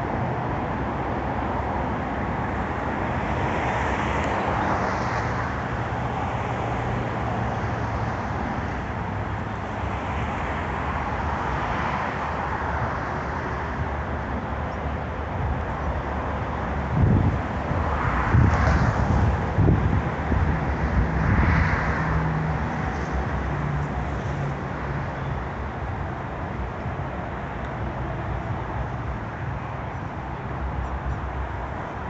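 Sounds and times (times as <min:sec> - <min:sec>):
outdoor background noise: 0:00.0 - 0:32.0.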